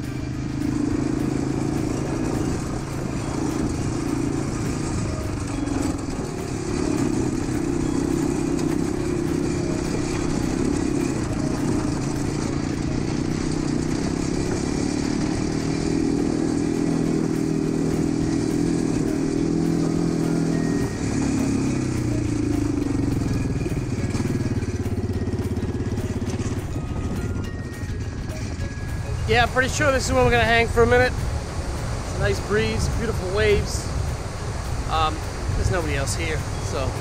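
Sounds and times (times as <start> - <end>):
quad bike engine running: 0.0 - 37.0.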